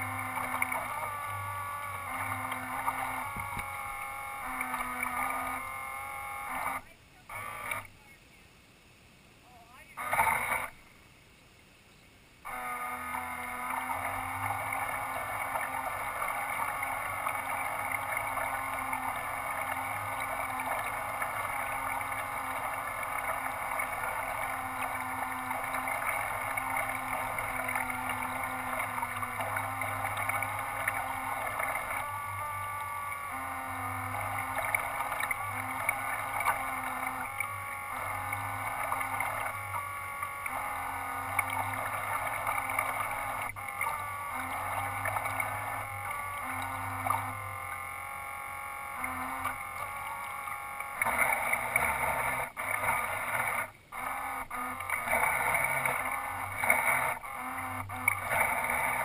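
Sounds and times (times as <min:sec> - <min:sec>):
model boat motors whining: 0:00.0 - 0:08.2, 0:09.7 - 0:11.0, 0:12.4 - 0:59.0.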